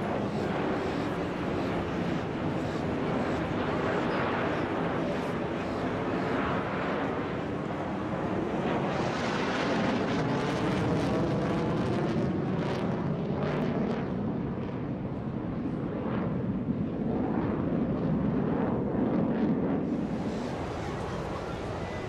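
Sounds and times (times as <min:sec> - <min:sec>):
fighter jets flying overhead: 0:00.0 - 0:22.0.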